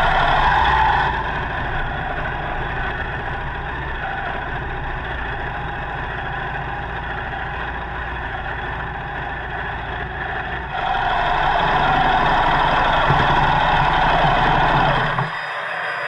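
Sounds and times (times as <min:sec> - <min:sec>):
motorcycle engine and exhaust: 0:00.0 - 0:15.4.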